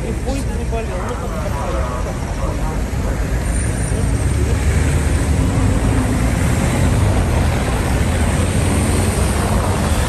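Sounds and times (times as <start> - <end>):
traffic rumble and tyre noise: 0.0 - 10.0.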